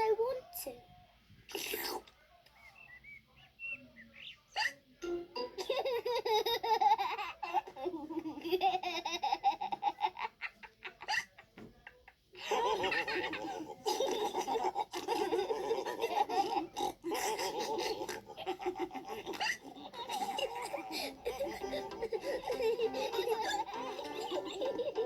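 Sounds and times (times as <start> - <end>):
high-pitched voices laughing: 4.6 - 25.0.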